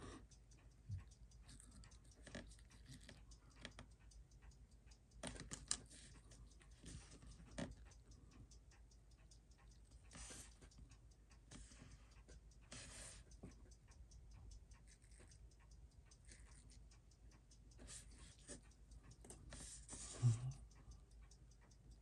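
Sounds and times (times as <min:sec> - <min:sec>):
faint rapid ticking: 0:00.0 - 0:22.0.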